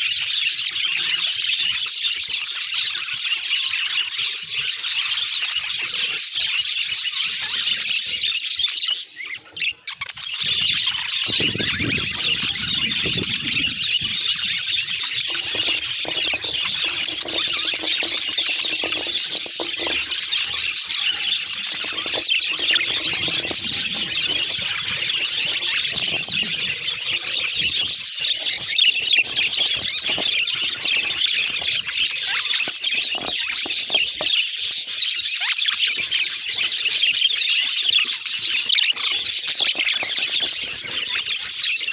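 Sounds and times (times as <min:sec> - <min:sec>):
budgerigars chattering and warbling: 0:00.0 - 0:41.9.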